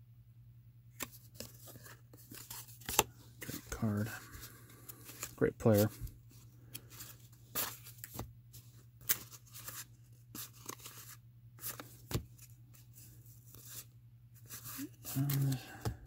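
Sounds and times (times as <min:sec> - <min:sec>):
faint steady hum: 0:00.0 - 0:16.0
cards rustling and clicking: 0:00.9 - 0:16.0.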